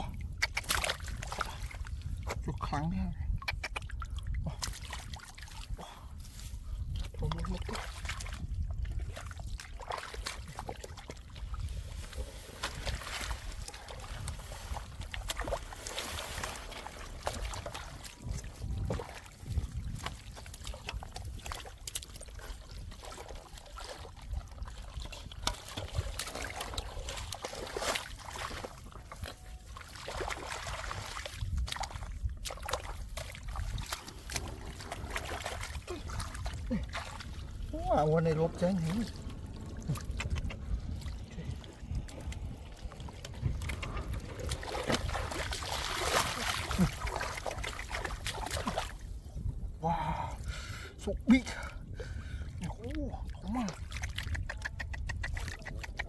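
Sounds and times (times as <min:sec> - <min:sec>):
muddy water sloshing: 0:00.0 - 0:56.0.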